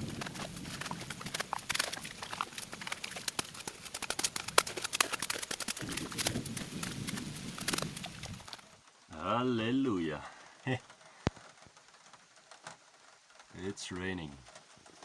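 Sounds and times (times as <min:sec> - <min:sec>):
raindrops falling: 0:00.0 - 0:15.0.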